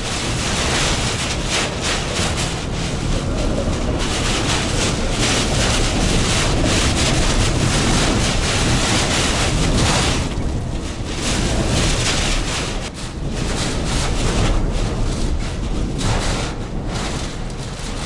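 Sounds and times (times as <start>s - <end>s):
strong wind gusting: 0.0s - 18.0s.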